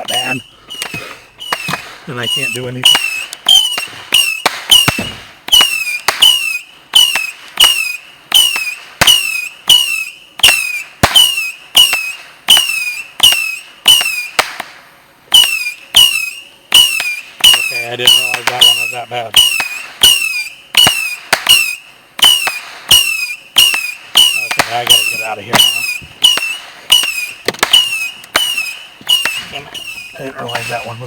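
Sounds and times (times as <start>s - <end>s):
firework bangs: 0.0s - 31.0s
firework whistles falling in pitch: 0.0s - 31.0s.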